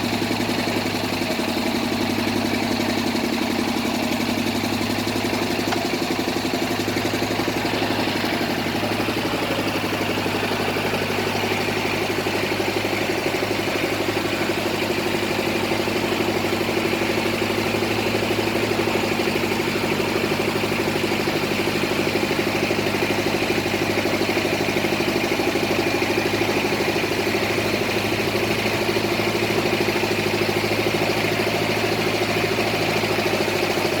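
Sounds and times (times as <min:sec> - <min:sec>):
drilling rig engine running: 0:00.0 - 0:34.0.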